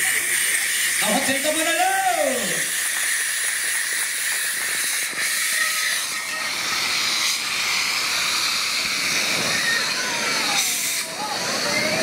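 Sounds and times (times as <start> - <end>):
fire extinguisher discharging: 0.0 - 12.0
pressurised gas hissing: 0.0 - 12.0.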